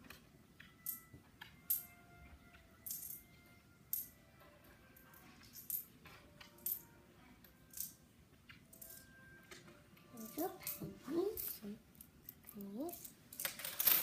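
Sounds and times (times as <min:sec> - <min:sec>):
coins clinking: 0:00.6 - 0:02.0, 0:02.7 - 0:04.2, 0:04.9 - 0:14.0.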